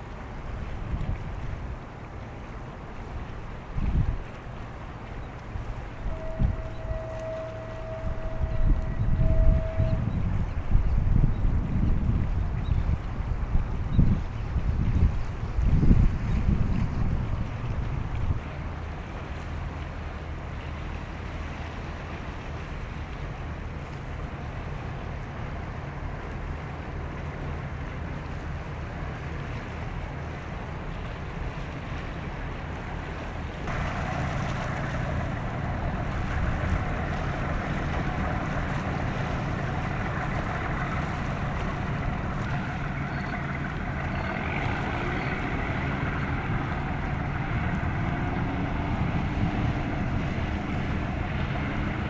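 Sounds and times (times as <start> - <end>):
ship engines humming: 0.0 - 52.0
water noise: 0.0 - 52.0
wind: 0.0 - 52.0.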